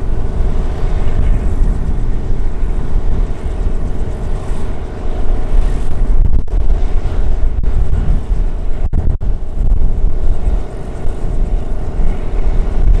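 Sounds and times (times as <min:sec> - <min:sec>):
turboprop engine droning: 0:00.0 - 0:13.0
uneven low rumble: 0:00.0 - 0:13.0.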